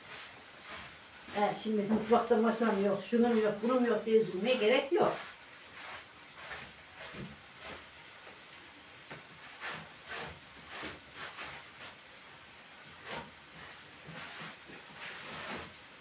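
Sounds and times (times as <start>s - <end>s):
wet cloth rubbing on wood: 0.0s - 16.0s.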